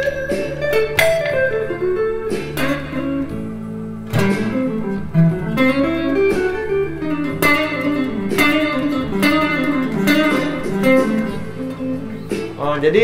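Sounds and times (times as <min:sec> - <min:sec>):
electric guitar playing blues licks: 0:00.0 - 0:13.0.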